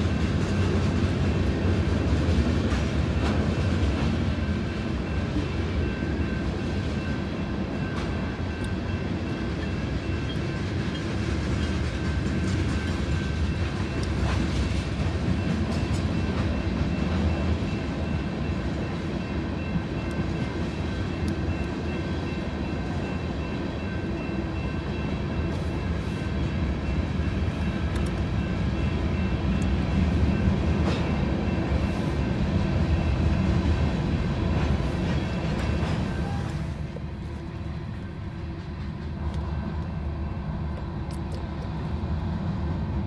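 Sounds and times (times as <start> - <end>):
rumble of train wheels on rail: 0.0 - 43.0.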